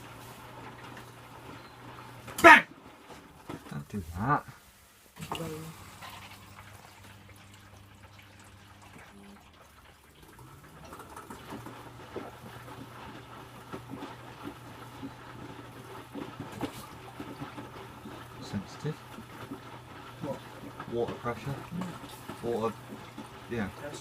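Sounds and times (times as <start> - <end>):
washing machine hum: 0.0 - 24.0
water and laundry sloshing: 0.0 - 24.0.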